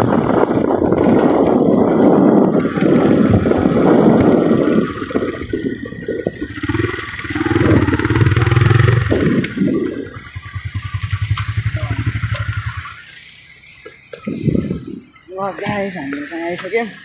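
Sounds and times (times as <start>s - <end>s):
wind rushing over microphone: 0.0s - 13.0s, 14.2s - 16.0s
motorcycle engine hum: 0.0s - 17.0s.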